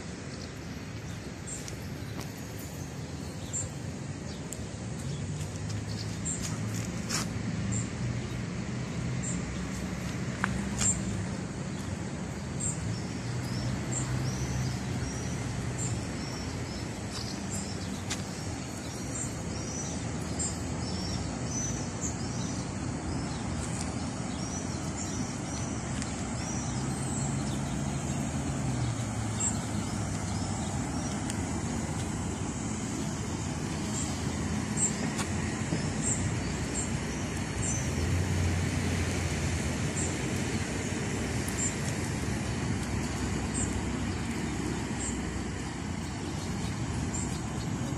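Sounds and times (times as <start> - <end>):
road traffic hum: 0.0 - 47.9
small birds chirping: 0.0 - 47.9
vehicles passing: 0.0 - 47.9.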